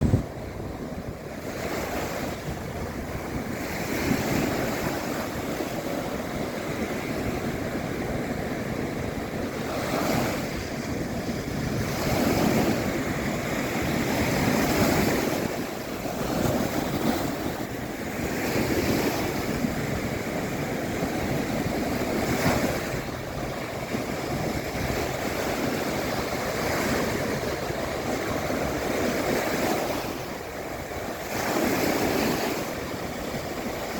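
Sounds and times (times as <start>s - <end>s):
sea waves breaking on shore: 0.0s - 33.9s.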